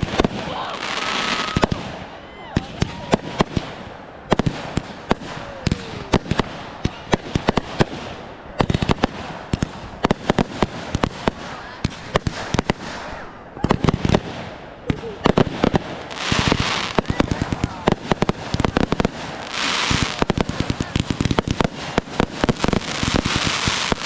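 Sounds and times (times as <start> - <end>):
fireworks bangs and pops: 0.0 - 24.0.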